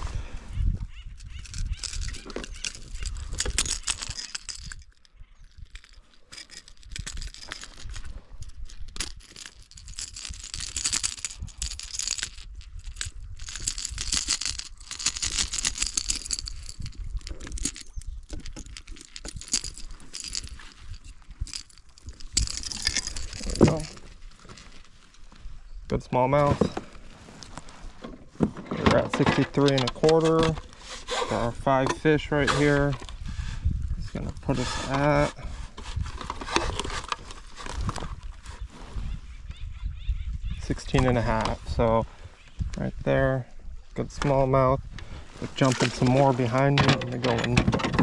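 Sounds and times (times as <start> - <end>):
fishing gear rattling and clicking: 0.0 - 39.2, 39.9 - 48.0.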